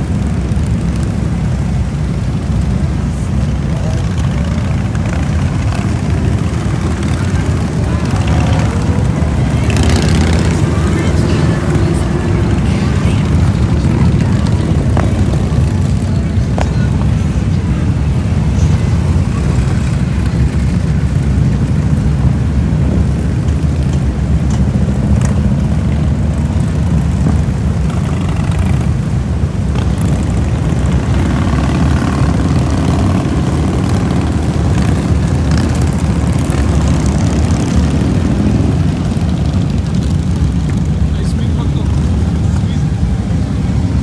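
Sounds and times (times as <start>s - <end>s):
motorcycles riding past: 0.0s - 44.0s.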